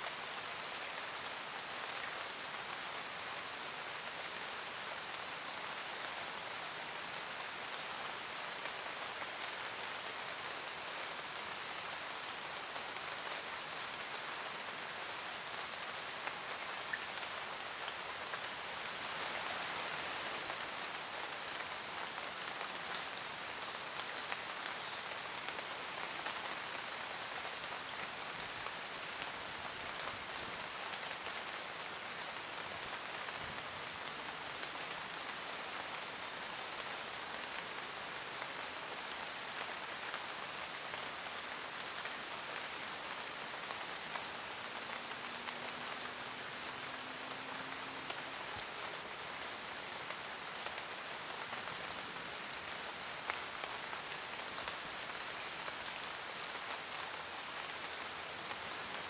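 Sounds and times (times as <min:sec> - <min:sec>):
rain pattering in forest: 0:00.0 - 0:59.0.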